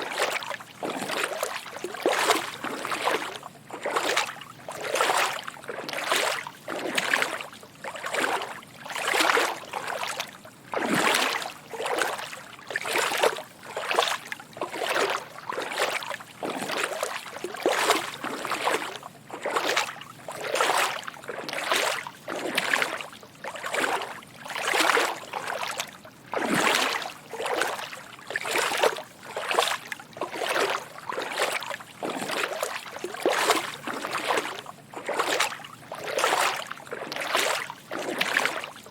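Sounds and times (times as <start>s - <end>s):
footsteps wading through water: 0.0s - 38.9s.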